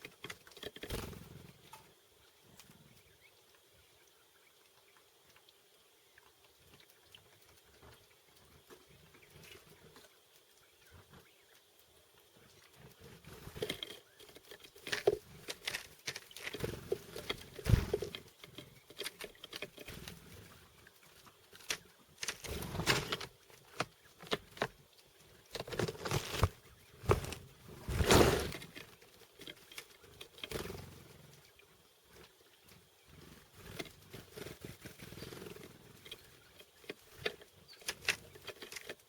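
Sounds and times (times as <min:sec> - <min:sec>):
birds pecking and tapping at seeds: 0:00.0 - 0:39.0.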